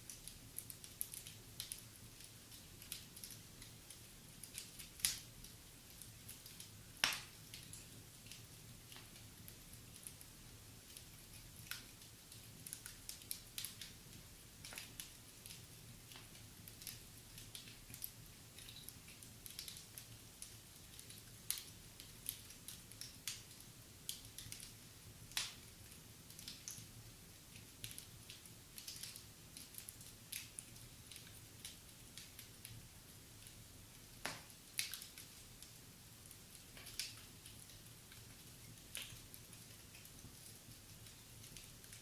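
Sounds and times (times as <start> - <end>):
fire snaps and pops: 0.0 - 42.0
wood fire crackling: 0.0 - 42.0.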